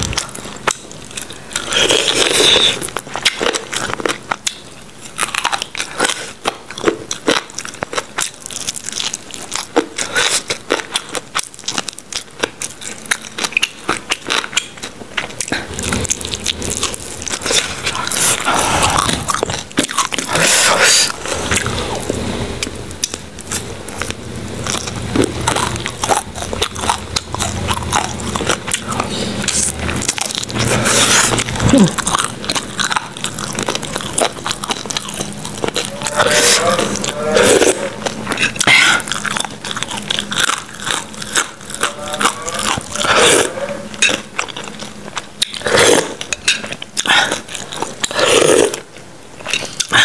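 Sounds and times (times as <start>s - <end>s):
crunchy fried chicken chewing: 0.0s - 50.0s.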